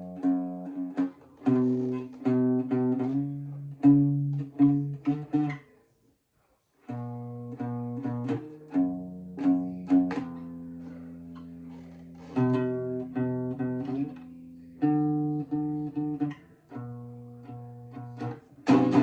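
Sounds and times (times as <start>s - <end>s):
guitar riff of plucked notes: 0.0s - 5.7s, 6.8s - 19.0s.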